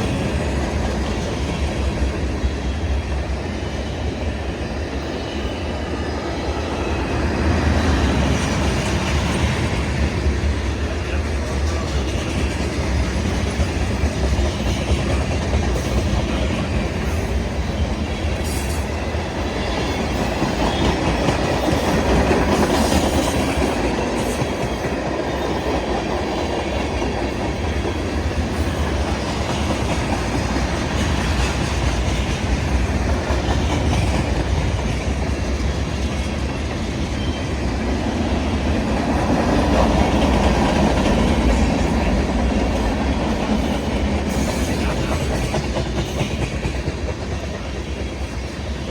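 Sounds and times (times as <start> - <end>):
freight train cars rumbling past: 0.0 - 48.9.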